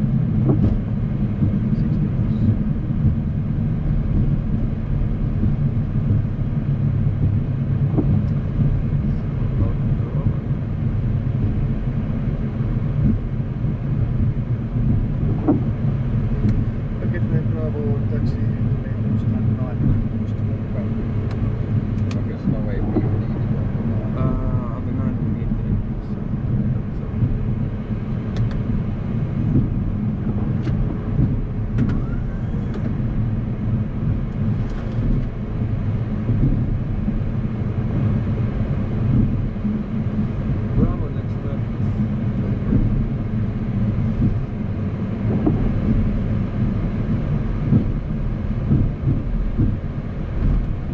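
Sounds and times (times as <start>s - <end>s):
aircraft engine low rumble: 0.0s - 50.9s.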